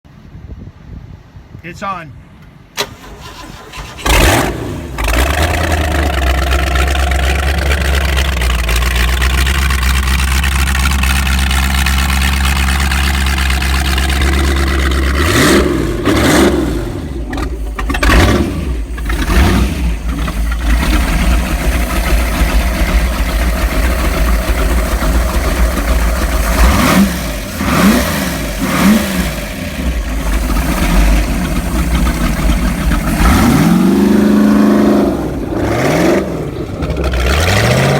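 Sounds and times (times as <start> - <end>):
boat engine revving: 2.8 - 37.9.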